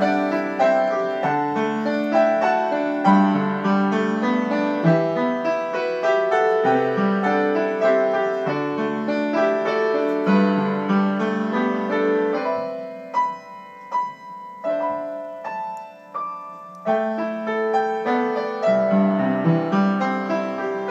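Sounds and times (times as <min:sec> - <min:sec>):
upright piano melody: 0:00.0 - 0:20.9.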